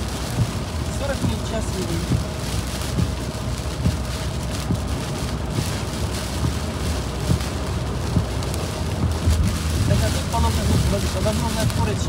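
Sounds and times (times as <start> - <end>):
hiss of rain: 0.0 - 12.0
tyre and road noise: 0.0 - 12.0.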